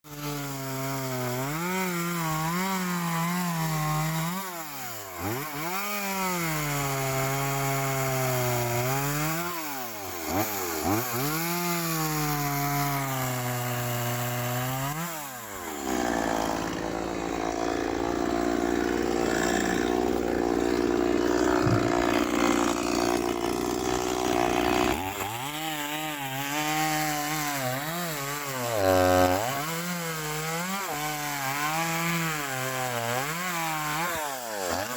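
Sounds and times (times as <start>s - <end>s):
chainsaw cutting wood: 0.0s - 34.9s
chainsaw revving: 0.1s - 34.9s.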